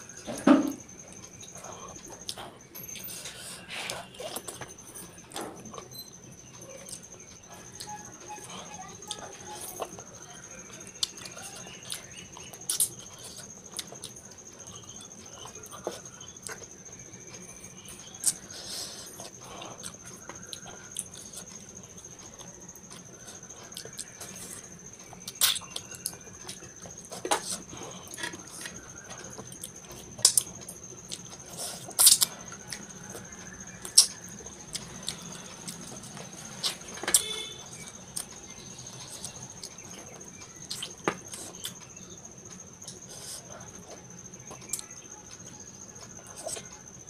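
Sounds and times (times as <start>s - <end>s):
chewing with wet mouth clicks: 0.8s - 3.1s, 10.9s - 21.8s, 22.4s - 47.0s.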